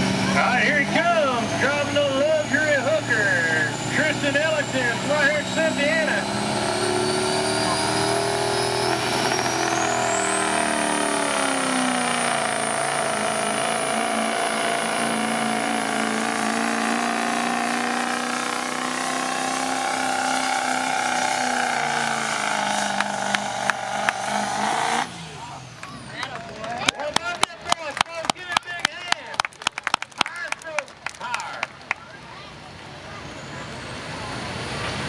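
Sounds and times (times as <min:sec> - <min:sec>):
truck engine running hard: 0:00.0 - 0:28.4, 0:29.8 - 0:35.0.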